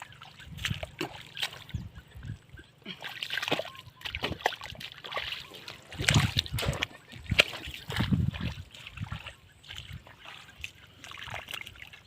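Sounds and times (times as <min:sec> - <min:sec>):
hands splashing in shallow water: 0:00.0 - 0:01.8, 0:02.9 - 0:12.0.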